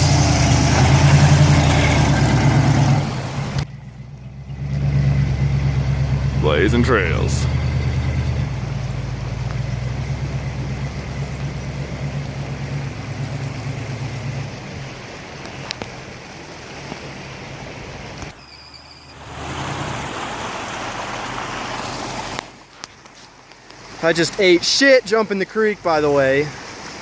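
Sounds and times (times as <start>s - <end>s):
truck engine running: 0.0s - 24.6s
creek water rushing: 0.0s - 27.0s.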